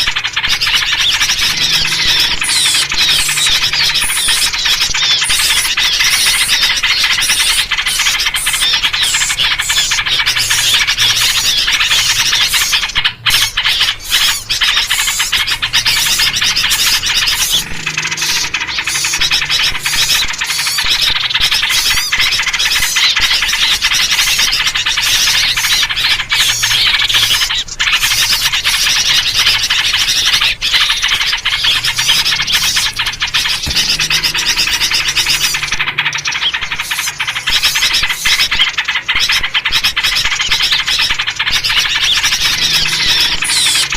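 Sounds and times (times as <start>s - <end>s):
bulbuls chattering calls: 0.0s - 43.9s
songbirds chirping: 0.0s - 43.9s.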